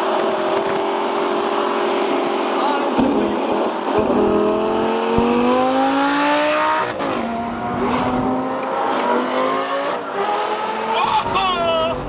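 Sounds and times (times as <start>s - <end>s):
sports car exhaust revving: 0.0s - 10.9s.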